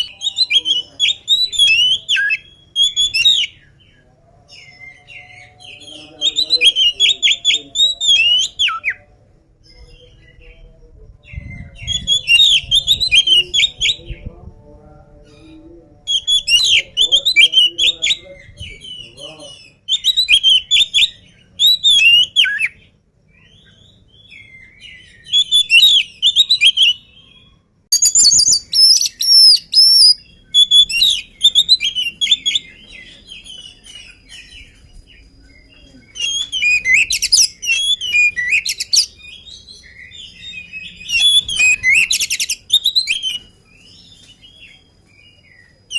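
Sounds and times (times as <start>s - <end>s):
songbird whistled phrases: 0.0s - 3.7s, 4.6s - 9.1s, 11.3s - 14.2s, 16.1s - 22.8s, 23.4s - 34.7s, 35.6s - 44.9s.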